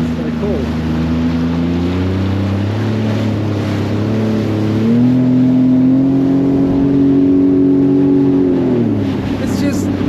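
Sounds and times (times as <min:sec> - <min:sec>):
jet ski engine revving: 0:00.0 - 0:10.0.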